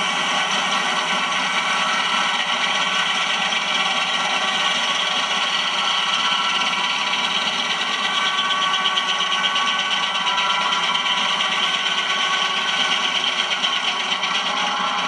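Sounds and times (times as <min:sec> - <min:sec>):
machinery rattle: 0:00.0 - 0:15.0
sawmill machinery din: 0:00.0 - 0:15.0.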